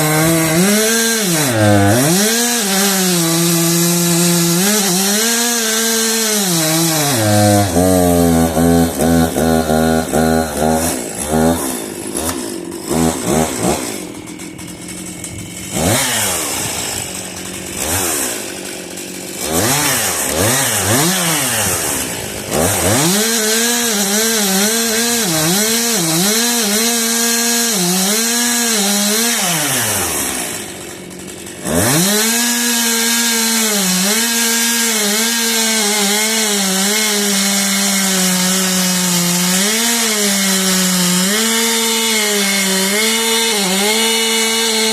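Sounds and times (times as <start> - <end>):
chainsaw revving and cutting wood: 0.0 - 44.9.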